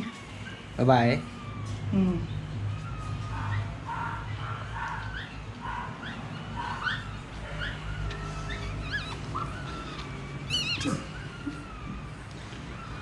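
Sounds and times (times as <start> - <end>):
puppy squeaking: 1.3 - 13.0.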